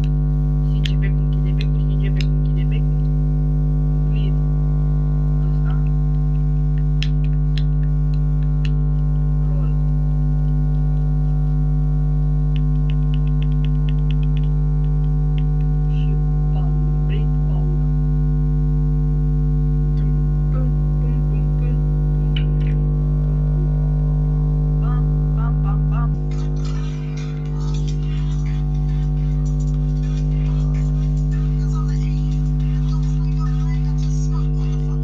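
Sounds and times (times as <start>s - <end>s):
loud electrical hum: 0.0s - 35.0s.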